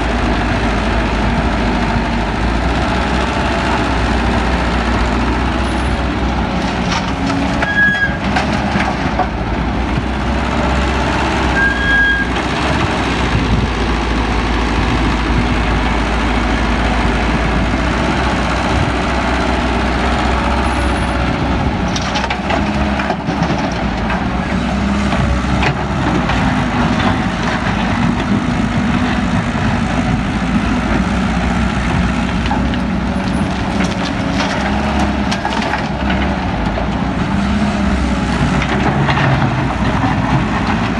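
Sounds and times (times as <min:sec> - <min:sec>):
diesel excavator engine: 0:00.0 - 0:40.9.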